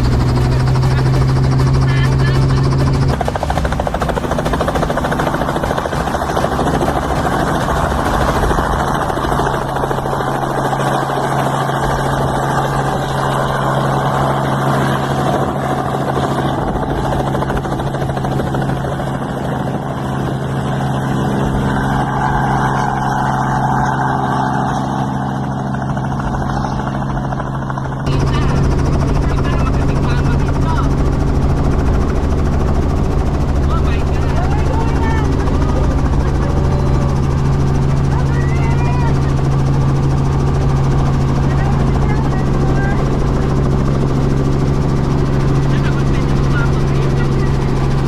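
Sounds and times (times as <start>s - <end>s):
helicopter engine and rotor drone: 0.0s - 48.0s.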